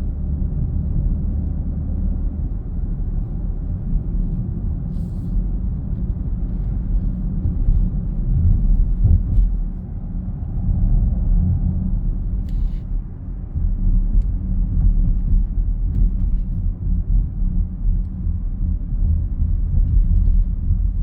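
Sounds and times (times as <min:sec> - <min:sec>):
low droning rumble in car cabin: 0:00.0 - 0:21.0.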